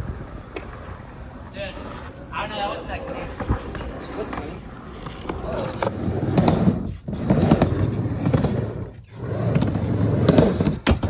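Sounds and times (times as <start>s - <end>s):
skateboard wheels rolling on ramp: 0.0s - 11.0s.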